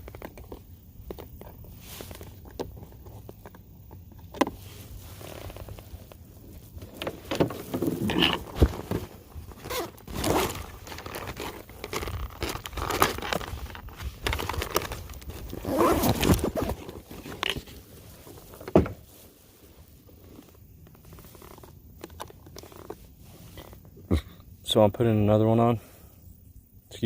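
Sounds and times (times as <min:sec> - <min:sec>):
rustling and crinkling gear: 0:00.0 - 0:24.6.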